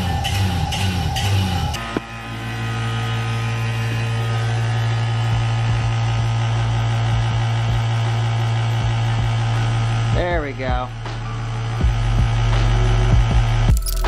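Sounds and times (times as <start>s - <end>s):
vacuum pump humming: 0.0s - 13.8s.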